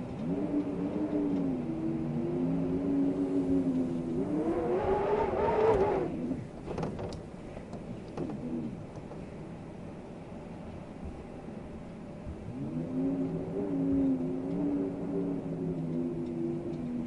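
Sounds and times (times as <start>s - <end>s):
howling wind: 0.0s - 17.0s.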